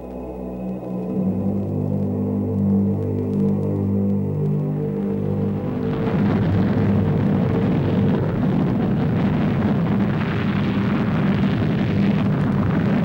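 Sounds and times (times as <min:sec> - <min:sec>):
faint music: 0:00.0 - 0:13.0.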